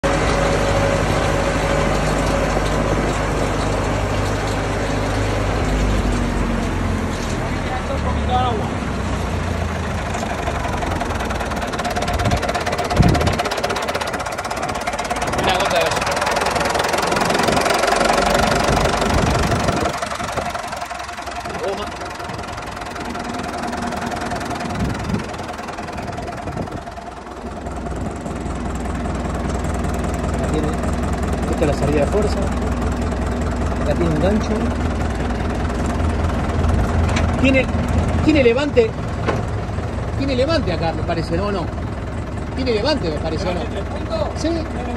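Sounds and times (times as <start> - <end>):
tractor diesel engine idling: 0.0 - 44.9.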